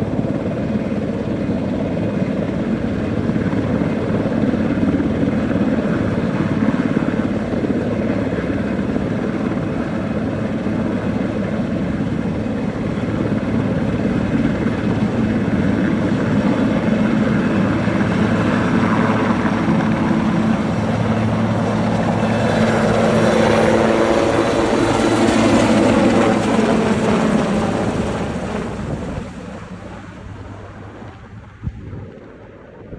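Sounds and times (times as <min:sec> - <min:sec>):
helicopter rotor and engines: 0:00.0 - 0:32.9.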